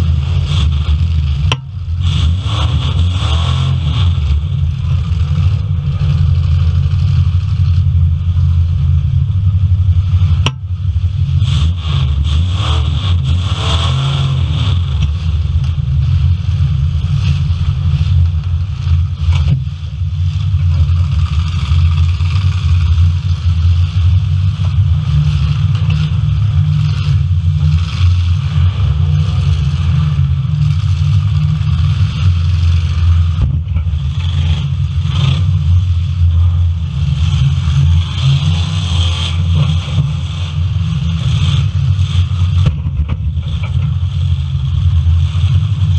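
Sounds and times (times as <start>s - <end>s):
car engines rumbling and revving: 0.0s - 45.9s.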